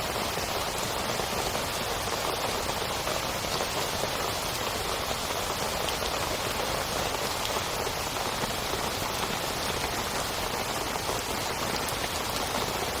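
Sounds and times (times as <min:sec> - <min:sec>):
heavy rain on a tent: 0:00.0 - 0:13.0.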